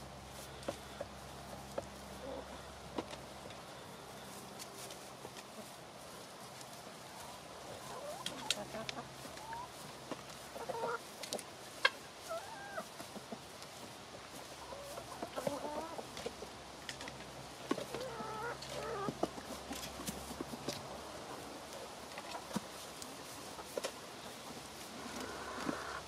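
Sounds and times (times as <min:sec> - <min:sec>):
chickens clucking: 0:00.1 - 0:26.0.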